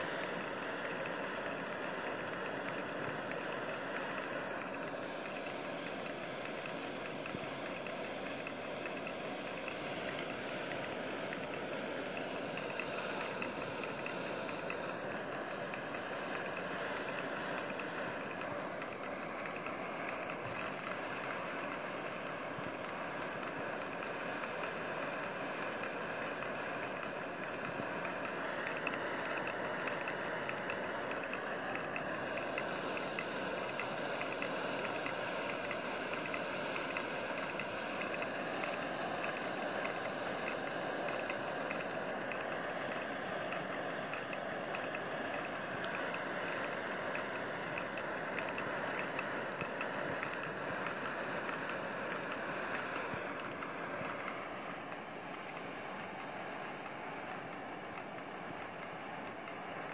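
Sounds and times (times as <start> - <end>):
model engine mechanical rattle: 0.0 - 59.9.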